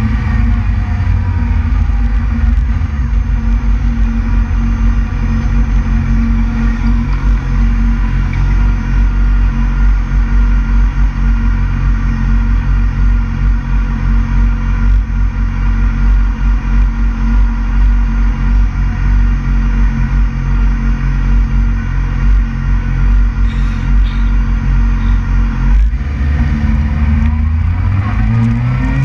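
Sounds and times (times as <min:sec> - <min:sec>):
motorcycle engine idling: 0:00.0 - 0:27.8.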